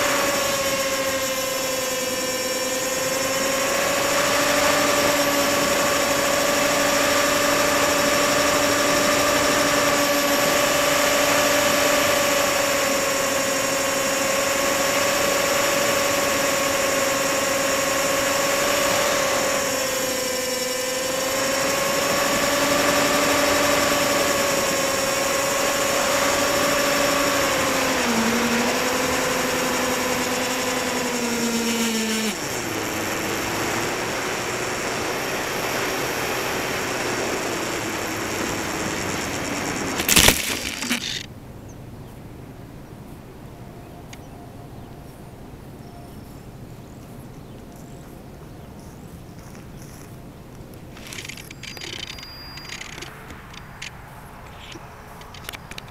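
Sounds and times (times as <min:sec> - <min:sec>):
electric motor and propeller whine: 0:00.0 - 0:55.9.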